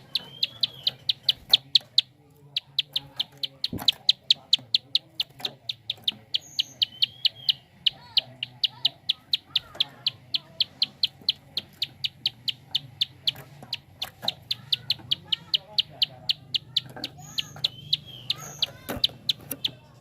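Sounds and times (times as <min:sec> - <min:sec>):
bird giving sharp ticking calls: 0:00.0 - 0:20.0.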